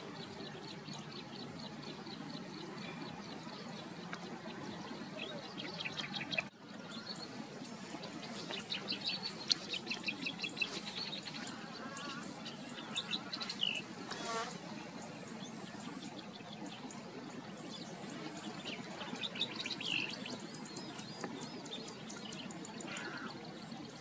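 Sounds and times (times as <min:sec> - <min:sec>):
outdoor background hiss: 0:00.0 - 0:24.0
small birds chirping: 0:00.0 - 0:24.0.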